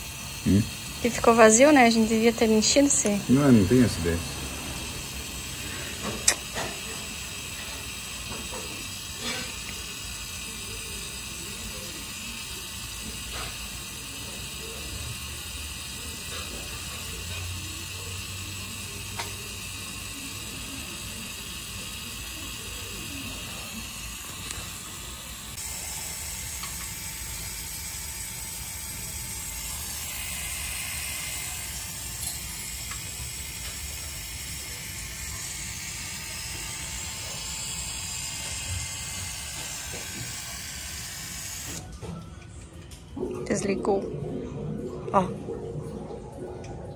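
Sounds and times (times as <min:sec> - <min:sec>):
electric fuel pump hissing: 0:00.0 - 0:41.9.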